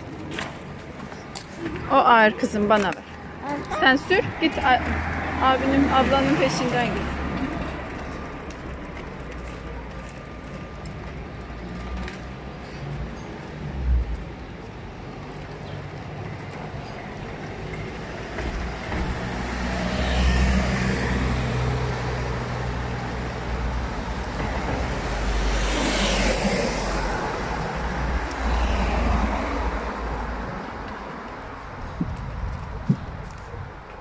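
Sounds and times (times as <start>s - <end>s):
steady low traffic rumble: 0.0s - 34.0s
vehicles passing by: 0.0s - 34.0s.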